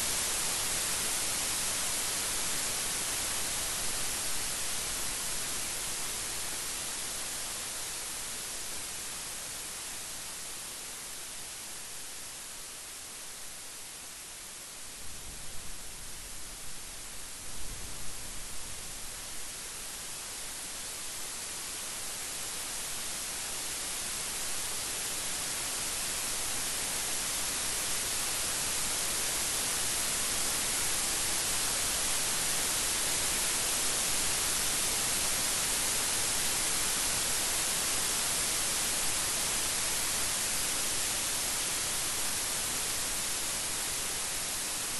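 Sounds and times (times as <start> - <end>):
heavy rain hiss: 0.0 - 44.9.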